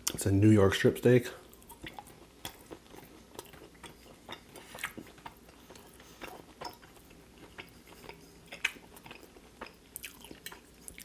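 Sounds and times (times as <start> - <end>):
close chewing with wet clicks: 1.4 - 11.0.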